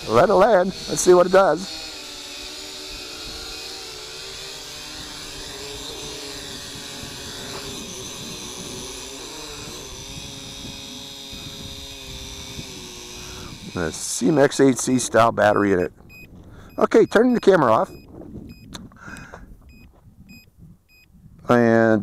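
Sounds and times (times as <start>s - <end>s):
drone propellers whirring: 0.0s - 21.0s.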